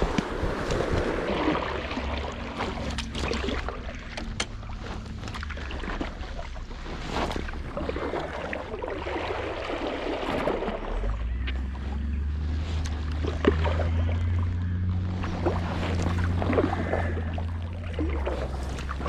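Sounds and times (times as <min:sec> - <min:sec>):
kayak paddle strokes splashing: 0:00.0 - 0:19.0
low steady rumble: 0:00.0 - 0:19.0
small splashes and knocks: 0:00.0 - 0:19.0
water lapping against hull: 0:00.0 - 0:19.0.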